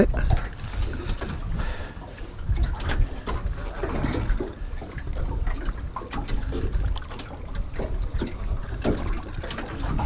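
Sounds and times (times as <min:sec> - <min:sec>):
water lapping against boat hull: 0:00.0 - 0:10.0
wind rumbling on microphone: 0:00.0 - 0:10.0.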